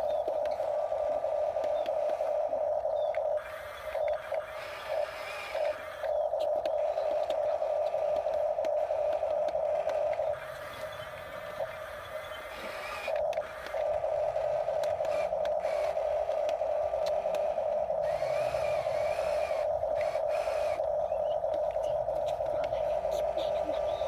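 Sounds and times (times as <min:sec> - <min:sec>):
small electric motor whirring: 0:00.0 - 0:24.0.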